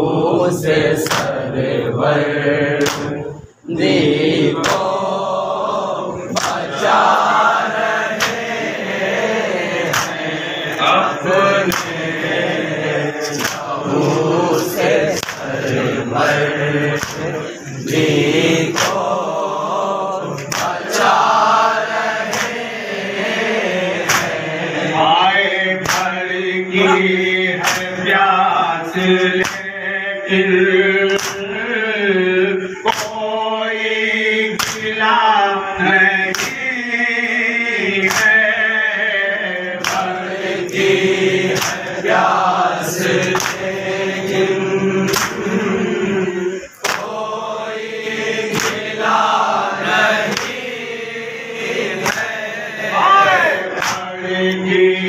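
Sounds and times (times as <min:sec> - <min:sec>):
men chanting in chorus: 0:00.0 - 0:55.0.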